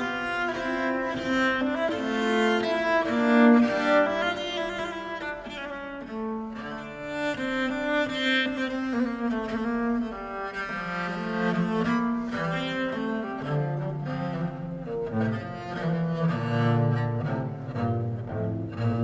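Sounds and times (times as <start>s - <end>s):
bowed bass viol: 0.0s - 19.0s.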